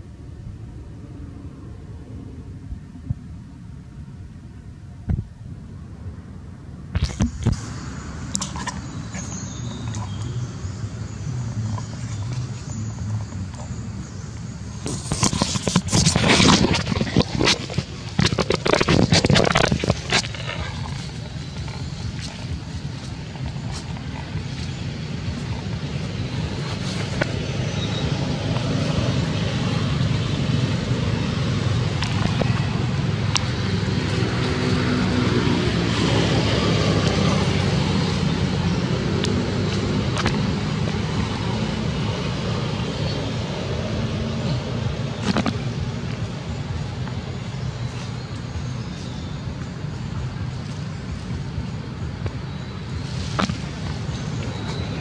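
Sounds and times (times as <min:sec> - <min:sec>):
road traffic rumble: 0:00.0 - 0:55.0
vehicle passing by: 0:07.4 - 0:55.0.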